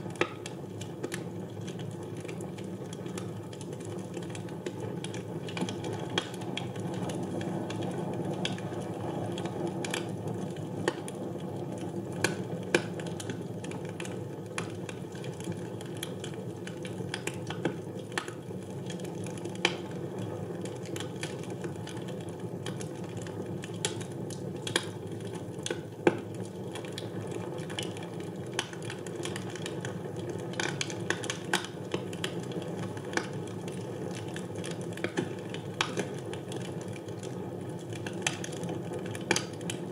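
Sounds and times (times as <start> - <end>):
fire crackling and popping: 0.0 - 39.9
fire roaring in fireplace: 0.0 - 39.9.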